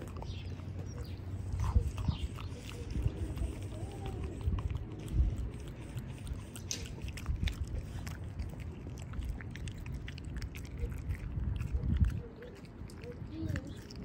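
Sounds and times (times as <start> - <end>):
dog chewing with wet crunches: 0.0 - 14.0
dog lip smacks: 0.0 - 14.0.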